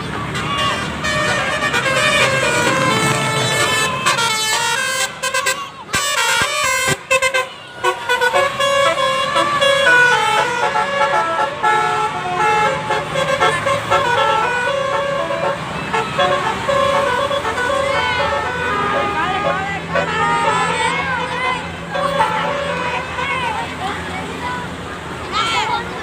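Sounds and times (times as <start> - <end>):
bus multi-tone horn melody: 0.0 - 24.5.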